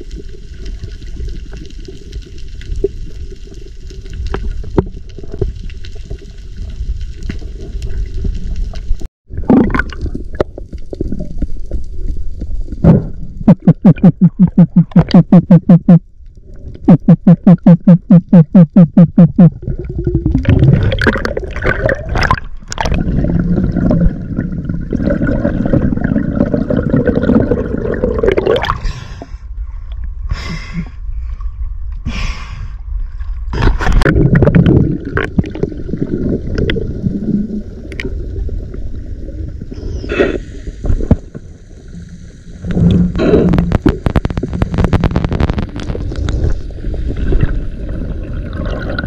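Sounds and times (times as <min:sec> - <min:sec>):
water gurgling and sloshing: 0:00.0 - 0:30.3, 0:32.8 - 0:49.0.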